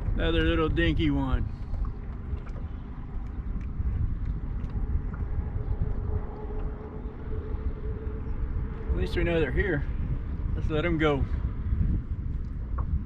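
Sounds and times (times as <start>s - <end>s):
wind buffeting microphone: 0.0s - 13.0s
steady hum: 1.4s - 13.0s.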